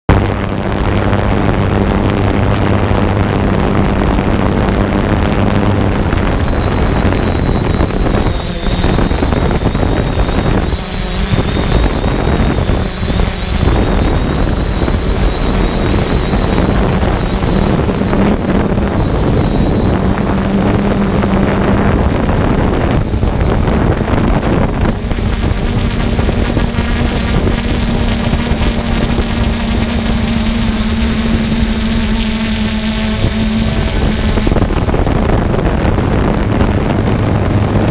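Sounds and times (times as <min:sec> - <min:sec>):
drone propellers humming: 0:00.1 - 0:37.9
thin high whine: 0:00.1 - 0:37.9
wind buffeting microphone: 0:00.1 - 0:37.9.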